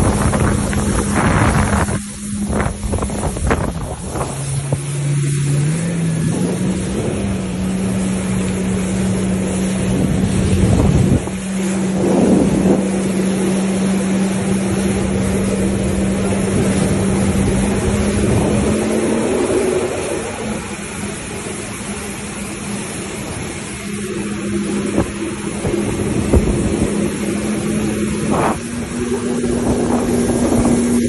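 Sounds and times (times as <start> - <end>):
jet ski engine running: 0.0 - 31.0
rush of noise: 0.0 - 31.0.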